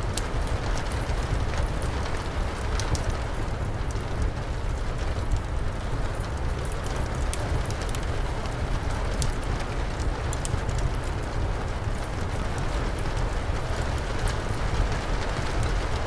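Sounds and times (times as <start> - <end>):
steady rain: 0.0 - 16.0
wood fire crackling: 0.0 - 16.0.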